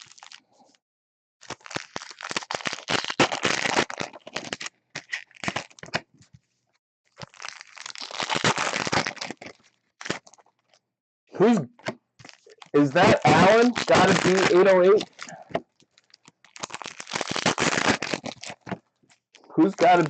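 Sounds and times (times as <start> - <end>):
foil wrappers crinkling: 0.0 - 0.7, 1.4 - 6.0, 7.1 - 10.8, 12.2 - 20.0.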